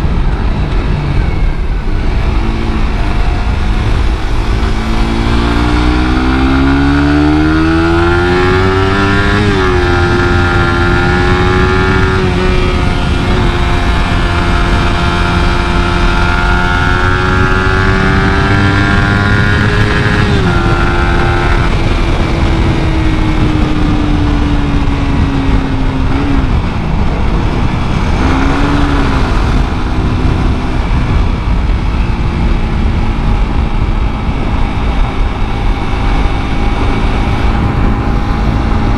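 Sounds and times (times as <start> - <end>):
motorcycle engine accelerating: 0.0 - 38.9
steady rushing noise: 0.0 - 38.9.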